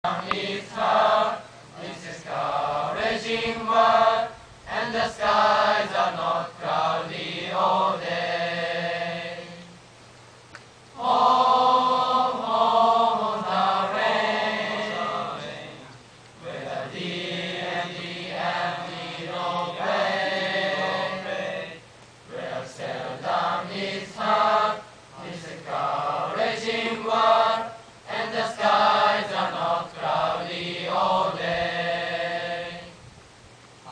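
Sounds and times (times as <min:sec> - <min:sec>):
boys choir singing: 0:00.0 - 0:09.8, 0:11.0 - 0:33.0.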